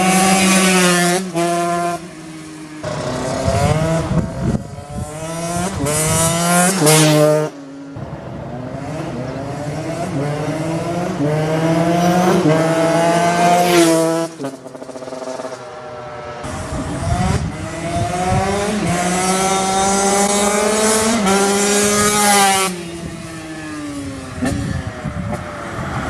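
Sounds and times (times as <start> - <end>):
two-stroke engine revving hard: 2.8 - 26.0.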